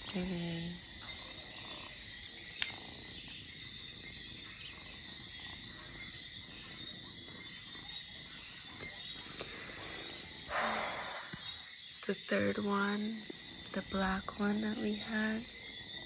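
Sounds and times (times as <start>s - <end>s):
insects and frogs chirping: 0.0s - 16.0s.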